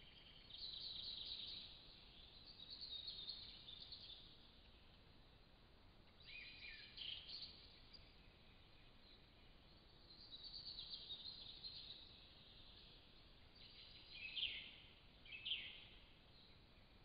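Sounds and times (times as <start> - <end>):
faint songbirds singing: 0.0 - 17.0
low steady microphone hiss: 0.0 - 17.0.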